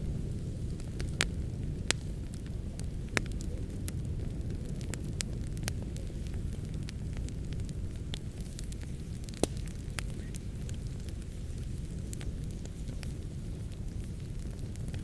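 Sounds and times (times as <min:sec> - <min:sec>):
fire crackles and pops: 0:00.0 - 0:15.0
low rumble of flames: 0:00.0 - 0:15.0.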